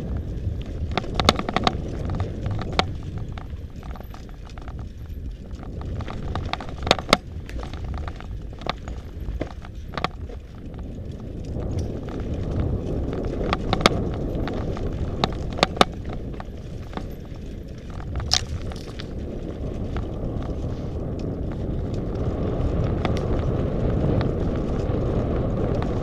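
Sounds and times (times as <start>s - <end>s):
bike rattling over rocks: 0.0s - 26.0s
bike tyres rumbling on gravel: 0.0s - 26.0s.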